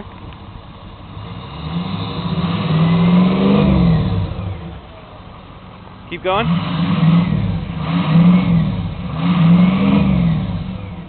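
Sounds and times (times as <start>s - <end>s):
diesel truck engine revving: 0.8s - 11.0s.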